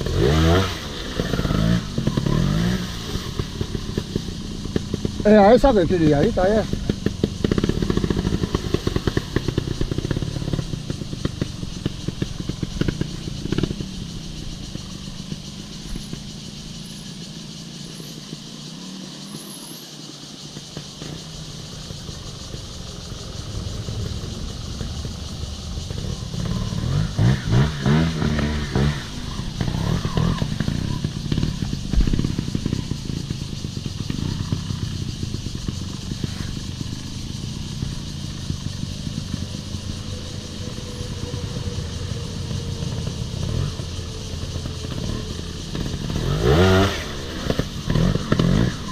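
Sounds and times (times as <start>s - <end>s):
clatter: 0.0s - 48.9s
motorcycle engine revving: 0.0s - 48.9s.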